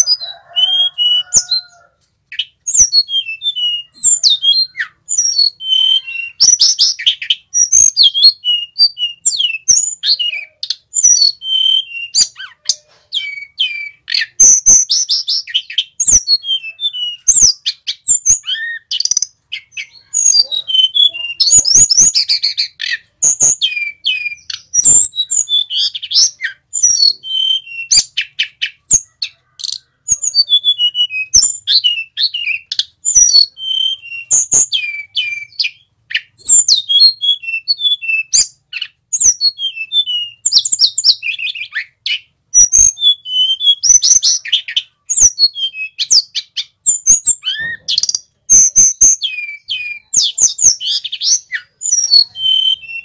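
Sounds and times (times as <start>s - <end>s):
bird singing whistled notes: 0.0s - 53.0s.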